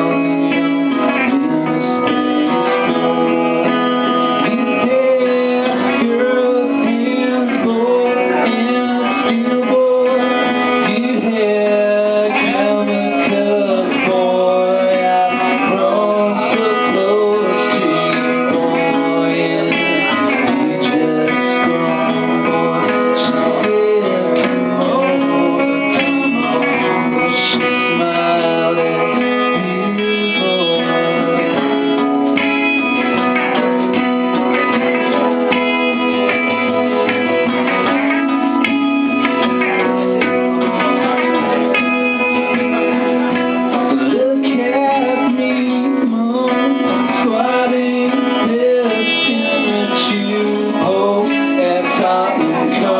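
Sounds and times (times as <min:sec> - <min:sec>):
person singing: 0:00.0 - 0:52.9
strummed guitar: 0:00.0 - 0:52.9.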